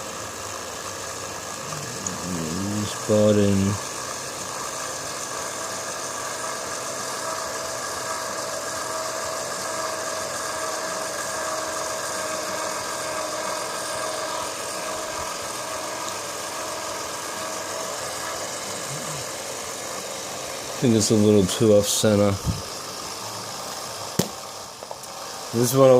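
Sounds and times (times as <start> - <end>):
mini lathe motor whining: 0.0 - 25.9.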